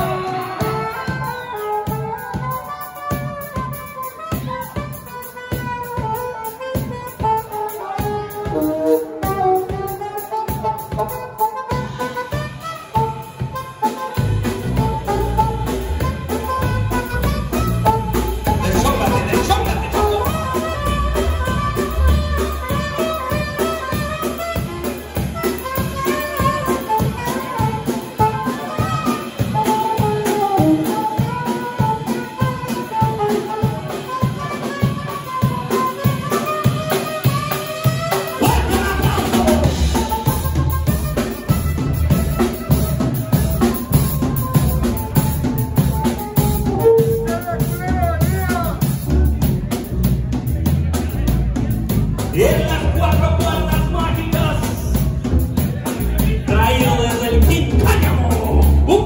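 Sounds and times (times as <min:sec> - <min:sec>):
heavy bass: 0:00.0 - 0:30.9, 0:38.1 - 0:59.0
drum kit: 0:00.0 - 0:59.0
saxophone melody: 0:00.0 - 0:59.0.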